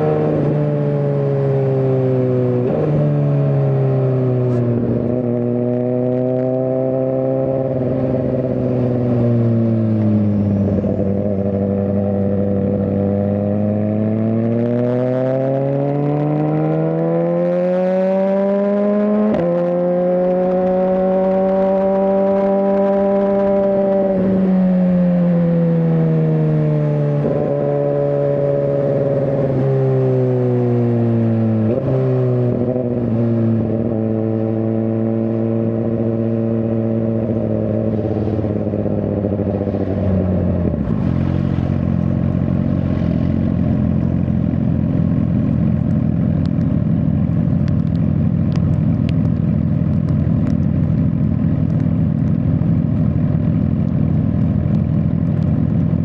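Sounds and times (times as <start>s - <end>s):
motorcycle engine slowing and idling: 0.0s - 56.0s.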